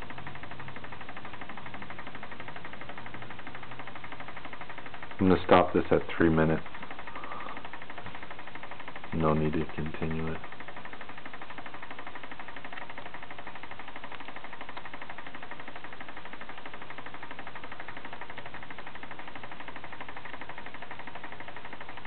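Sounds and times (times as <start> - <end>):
steel ball rattling on spinning disc: 0.0 - 22.0.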